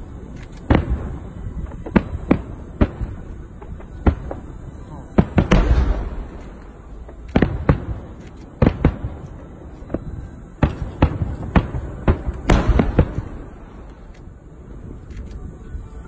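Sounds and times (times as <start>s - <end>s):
fireworks bangs with rumble: 0.6s - 13.9s.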